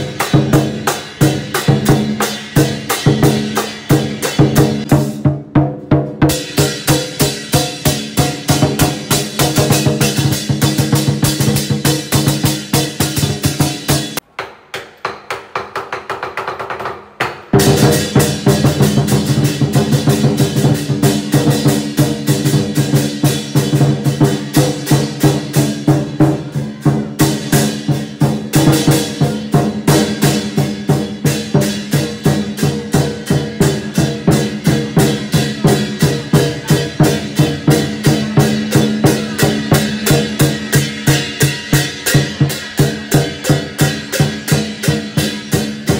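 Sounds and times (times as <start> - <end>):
large drum beating fast: 0.0 - 14.2, 17.6 - 45.9
other percussion: 0.0 - 45.9.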